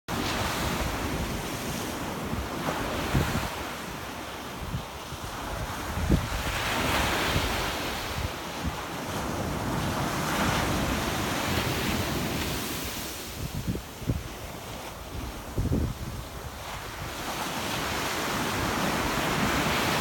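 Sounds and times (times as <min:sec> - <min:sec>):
wind buffeting microphone: 0:00.1 - 0:20.0.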